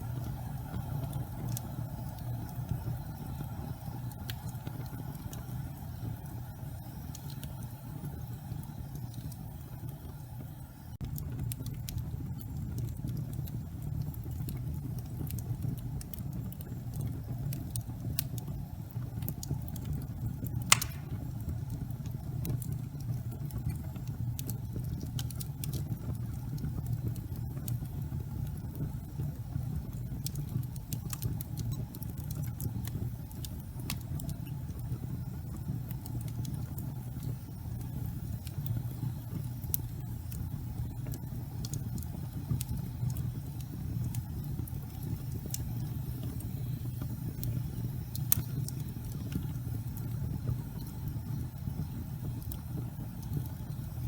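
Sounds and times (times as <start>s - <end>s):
fire rumbling and crackling: 0.0s - 54.0s.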